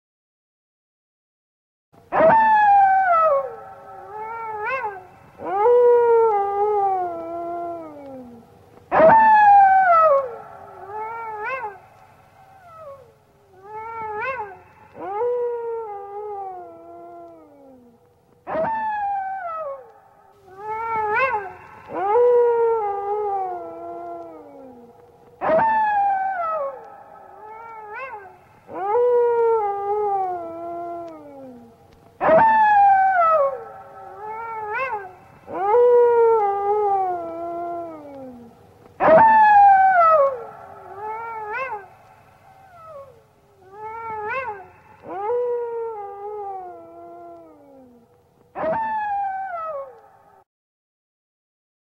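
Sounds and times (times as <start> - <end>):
cartoon robot wolf howling: 2.1 - 11.8, 12.5 - 17.9, 18.5 - 19.9, 20.5 - 41.9, 42.6 - 50.0.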